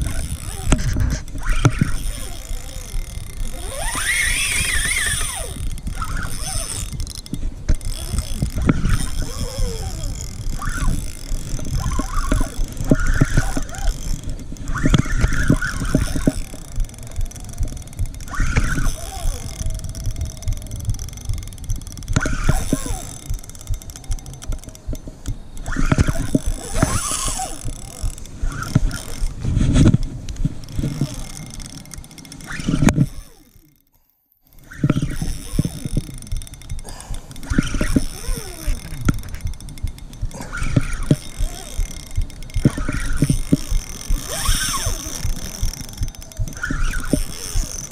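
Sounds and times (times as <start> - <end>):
spinning reel being cranked: 0.0 - 47.9.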